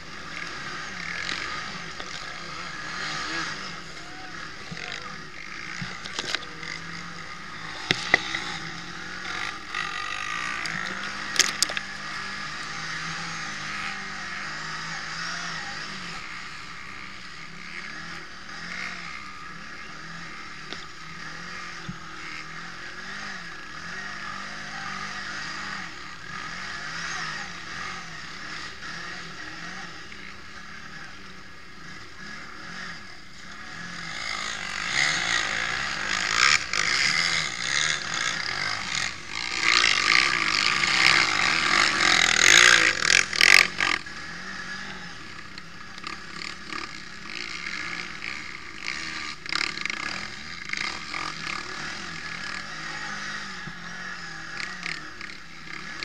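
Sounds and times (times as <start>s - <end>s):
quad bike engine running: 0.0s - 56.0s
steady rush of noise: 0.0s - 56.0s.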